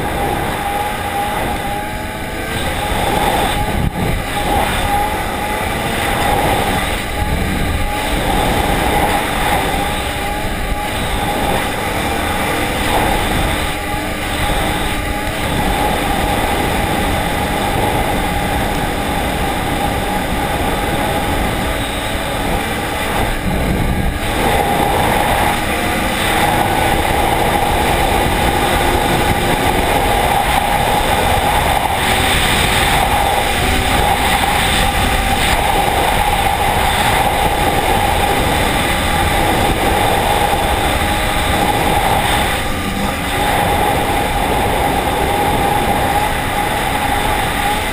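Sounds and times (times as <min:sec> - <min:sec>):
snowmobile engine drone with whine: 0:00.0 - 0:47.9.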